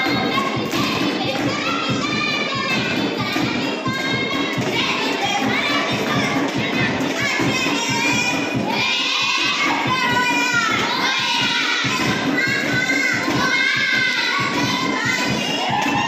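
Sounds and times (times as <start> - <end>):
children singing together: 0.0 - 16.0
low rhythmic pulse: 0.0 - 16.0.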